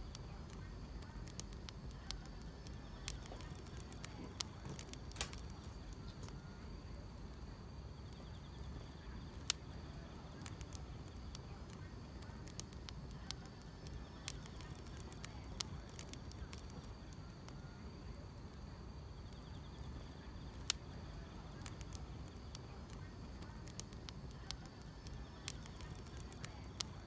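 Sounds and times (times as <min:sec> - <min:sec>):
grass insects trilling: 0:00.0 - 0:06.7, 0:08.0 - 0:18.2, 0:19.0 - 0:27.0
wood fire crackling: 0:00.0 - 0:27.0.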